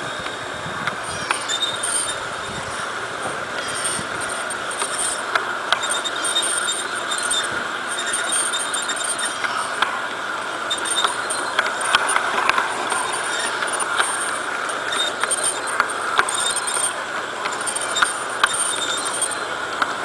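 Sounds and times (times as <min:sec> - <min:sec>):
electric motor whir: 0:00.0 - 0:20.0
wheels clicking over rail joints: 0:00.0 - 0:20.0.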